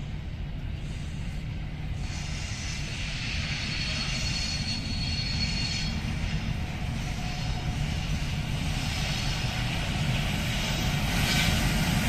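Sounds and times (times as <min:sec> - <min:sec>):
diesel locomotive rumble: 0:00.0 - 0:12.0.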